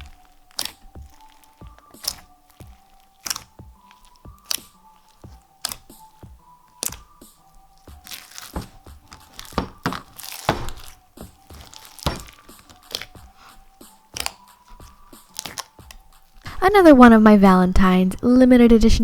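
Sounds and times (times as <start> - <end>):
slime squeezed with crunches and pops: 0.0 - 16.6.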